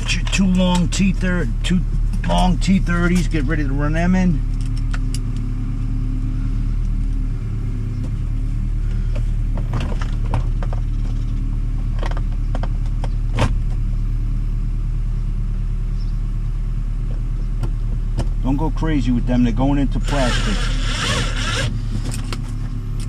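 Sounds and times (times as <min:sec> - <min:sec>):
low rumbling hum: 0:00.0 - 0:23.0.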